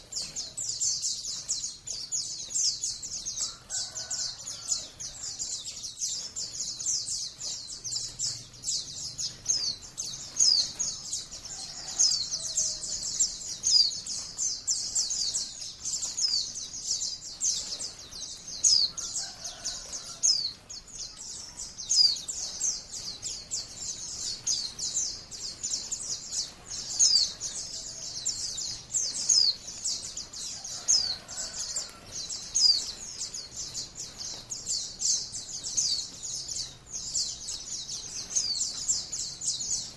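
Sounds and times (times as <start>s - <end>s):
bird song with high thin chirps: 0.0s - 39.9s.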